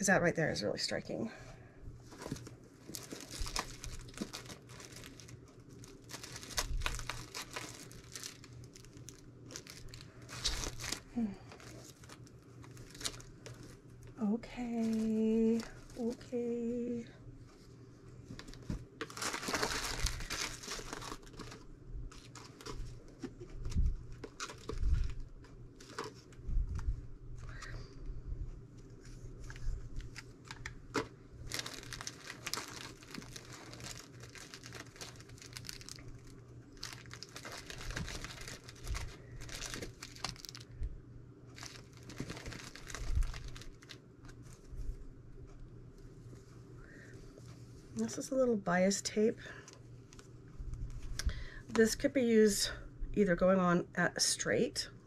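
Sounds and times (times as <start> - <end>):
fabric rustling and crinkling: 2.0 - 27.4, 28.5 - 40.8, 41.4 - 48.2.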